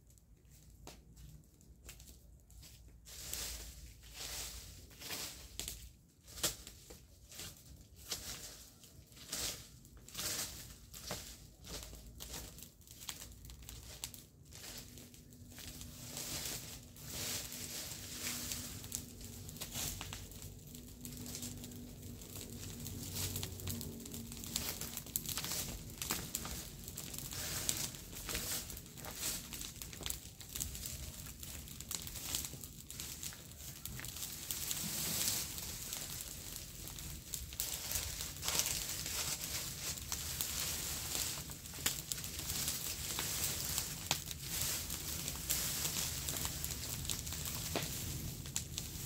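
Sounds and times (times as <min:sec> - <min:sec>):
dry leaves being raked: 0:02.6 - 0:49.0.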